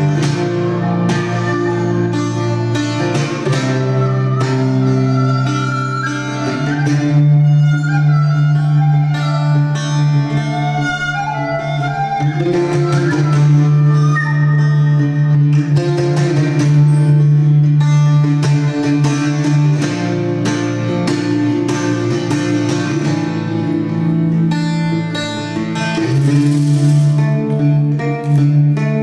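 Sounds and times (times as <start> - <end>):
plucked lute: 0.0 - 29.0.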